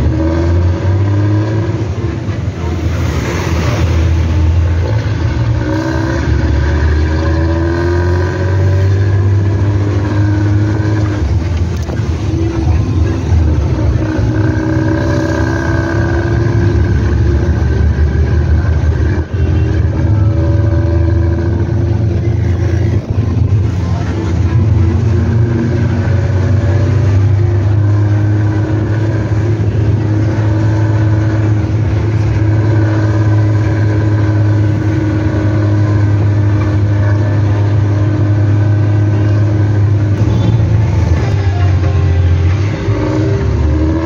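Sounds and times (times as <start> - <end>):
bus engine rough exhaust rumble: 0.0 - 44.0.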